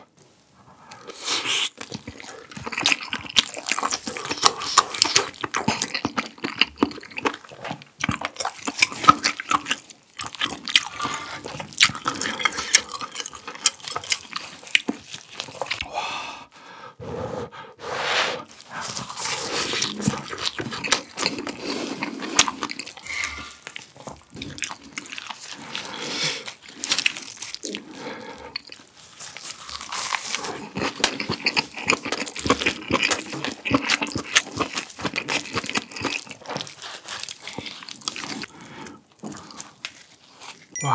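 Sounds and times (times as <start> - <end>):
chewing and wet mouth sounds: 0.9 - 15.9, 18.5 - 40.9.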